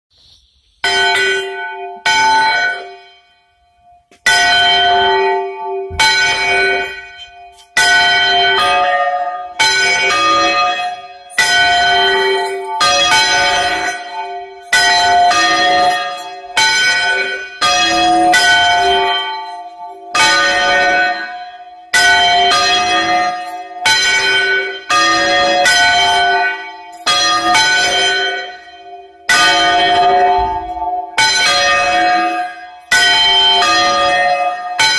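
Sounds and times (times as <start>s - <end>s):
church bells clanging: 0.8s - 34.9s.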